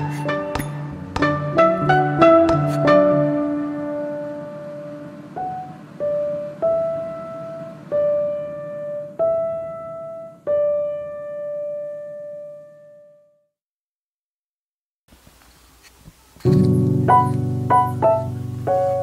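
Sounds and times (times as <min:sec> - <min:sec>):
slow piano melody: 0:00.0 - 0:13.5, 0:16.4 - 0:19.0.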